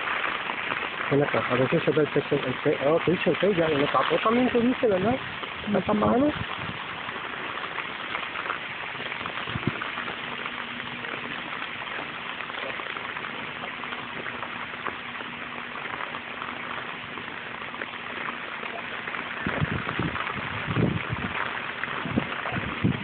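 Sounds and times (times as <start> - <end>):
heavy rain on standing water: 0.0 - 23.0.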